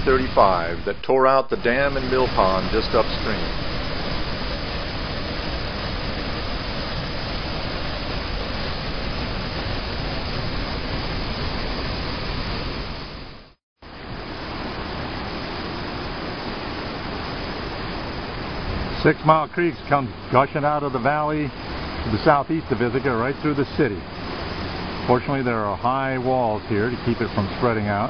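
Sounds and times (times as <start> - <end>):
creek rushing: 0.0 - 28.0.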